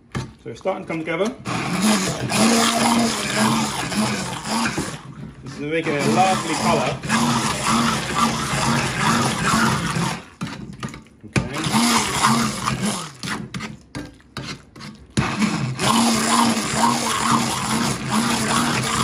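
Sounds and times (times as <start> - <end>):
stick blender motor running: 1.2 - 19.0.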